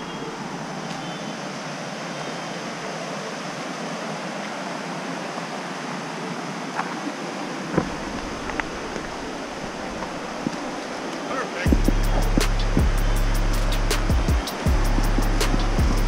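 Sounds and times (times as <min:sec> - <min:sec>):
river rushing over rocks: 0:00.0 - 0:12.9, 0:13.5 - 0:16.0.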